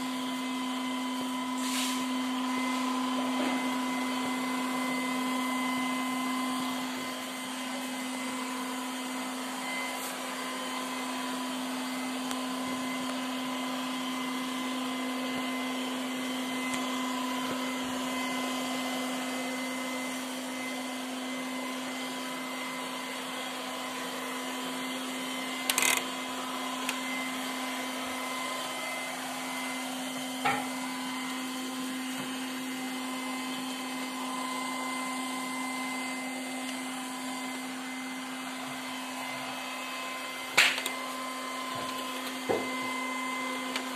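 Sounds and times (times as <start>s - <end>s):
robot vacuum cleaner running: 0.0s - 43.9s.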